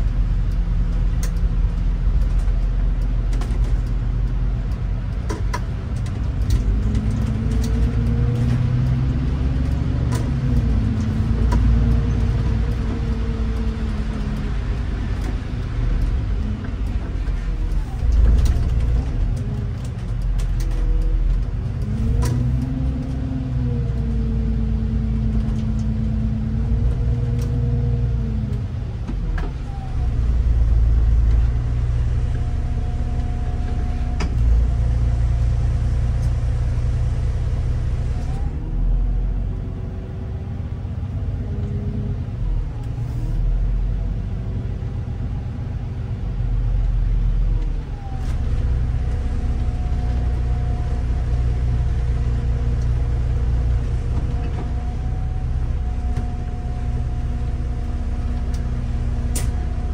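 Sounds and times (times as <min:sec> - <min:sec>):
bus engine: 0:00.0 - 0:59.9
low road rumble: 0:00.0 - 0:59.9.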